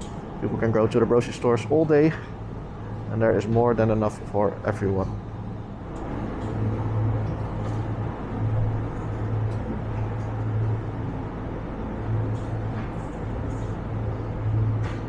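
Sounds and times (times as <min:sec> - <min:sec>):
rushing background noise: 0:00.0 - 0:15.0
steady low hum: 0:00.0 - 0:15.0.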